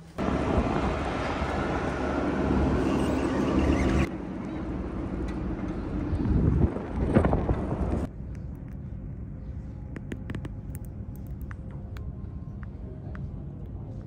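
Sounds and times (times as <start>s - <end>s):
moving vehicle rumbling: 0.0s - 14.0s.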